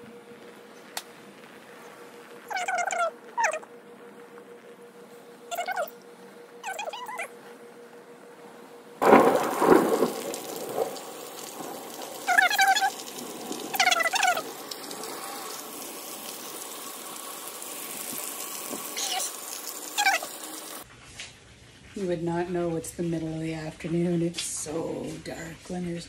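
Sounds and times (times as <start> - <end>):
rain hissing: 0.0 - 23.6.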